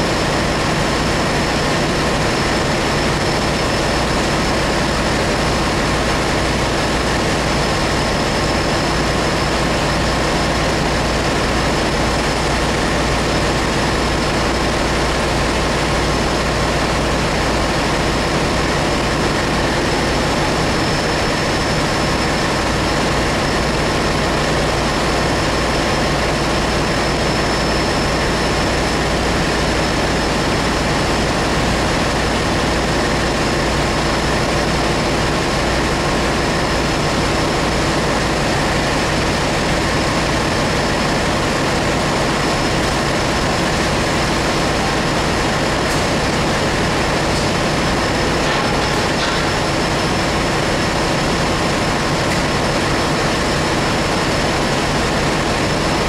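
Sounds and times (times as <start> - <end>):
engine room machinery drone: 0.0 - 56.0.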